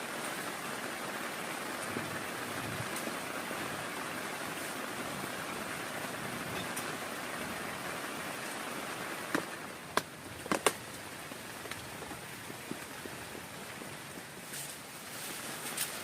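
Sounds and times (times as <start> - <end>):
heavy raindrops tapping: 0.0 - 14.7
steady rain falling: 0.0 - 16.0.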